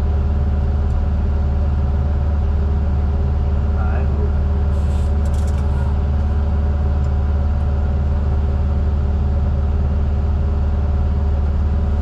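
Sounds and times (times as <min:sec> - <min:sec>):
heavy diesel engine drone: 0:00.0 - 0:12.0.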